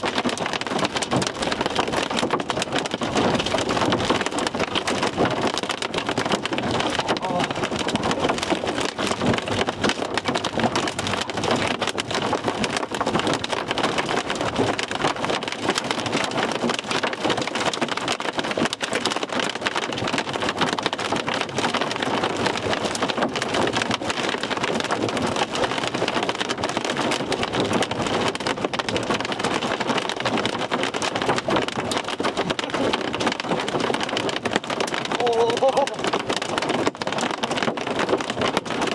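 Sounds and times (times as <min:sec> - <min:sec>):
hail clattering on vehicle: 0:00.0 - 0:38.9.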